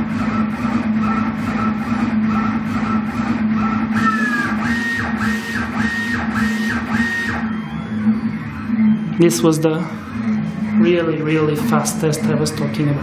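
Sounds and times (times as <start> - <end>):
steady low hum: 0.0 - 13.0
stepper motors whining: 0.0 - 13.0.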